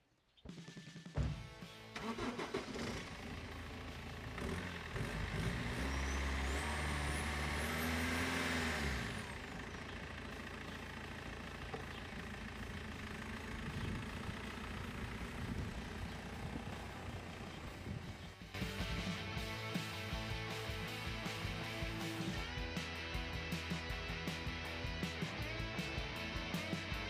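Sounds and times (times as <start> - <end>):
car engine starting and idling: 1.2 - 27.0
car engine revving: 2.0 - 27.0.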